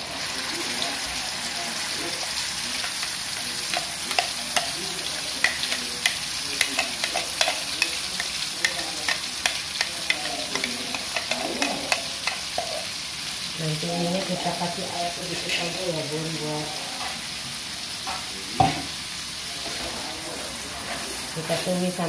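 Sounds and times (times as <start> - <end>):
spice paste sizzling in oil: 0.0 - 22.0.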